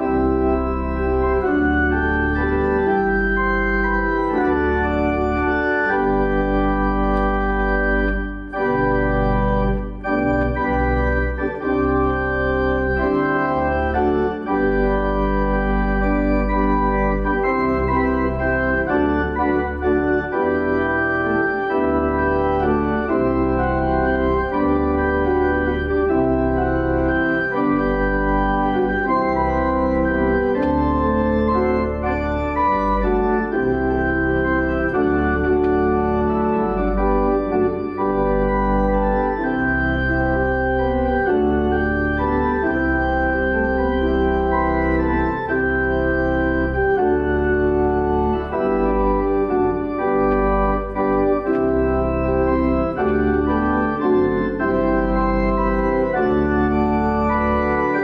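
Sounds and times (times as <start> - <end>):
church organ playing a hymn: 0.0 - 58.0.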